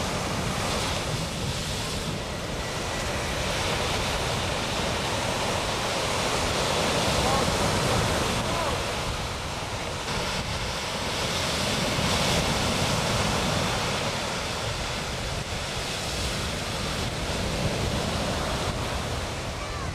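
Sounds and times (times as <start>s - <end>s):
surf breaking on beach: 0.0s - 19.9s
wind buffeting microphone: 0.0s - 19.9s.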